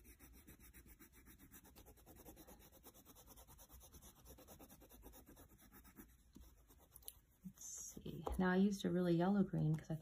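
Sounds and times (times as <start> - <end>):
crayon scribbling on paper: 0.0 - 8.2.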